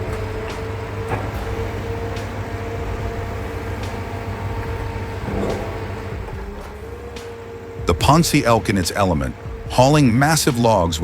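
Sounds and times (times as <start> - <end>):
diesel engine humming: 0.0 - 11.0
sharp knocks: 0.0 - 11.0.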